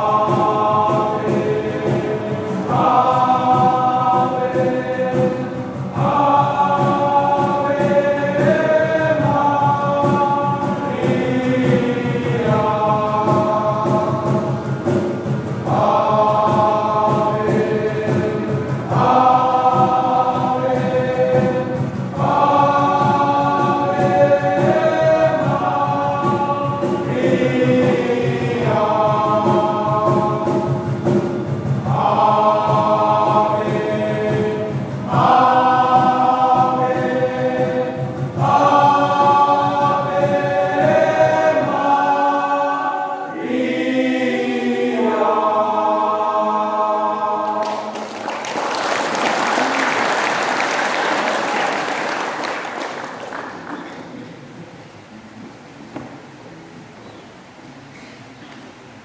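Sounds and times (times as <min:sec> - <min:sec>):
male choir singing a hymn: 0:00.0 - 0:54.0.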